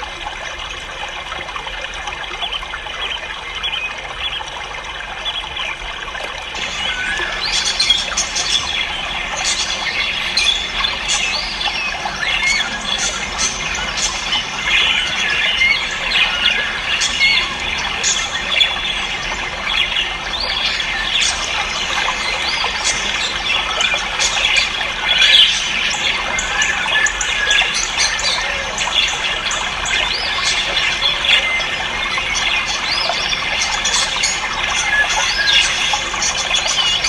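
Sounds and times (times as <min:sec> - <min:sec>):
caged birds chirping and squawking: 0:06.6 - 0:37.0.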